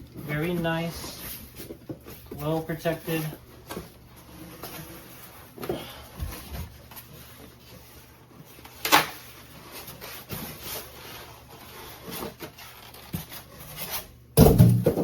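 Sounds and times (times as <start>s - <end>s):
packaging rubbing and scraping: 0.2s - 14.2s.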